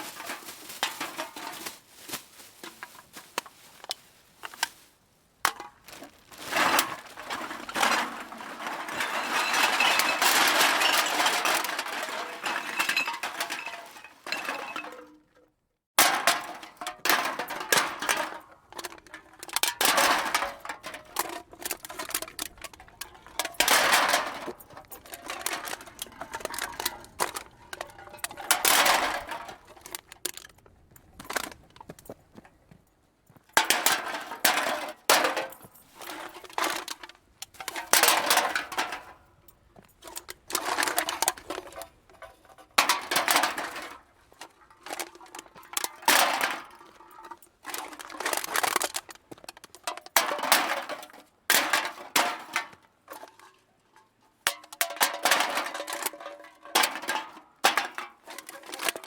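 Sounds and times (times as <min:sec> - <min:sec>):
hard objects clattering and clinking: 0:00.0 - 0:04.7, 0:05.4 - 0:32.5, 0:33.3 - 0:59.0.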